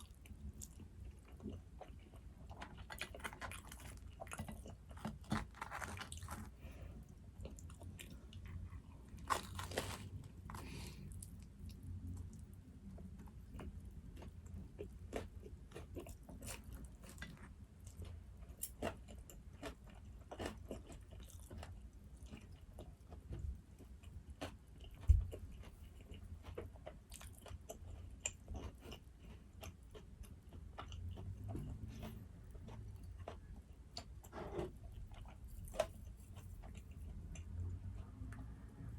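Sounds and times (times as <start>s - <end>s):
chewing with wet mouth clicks: 0.0s - 6.4s, 11.1s - 38.8s.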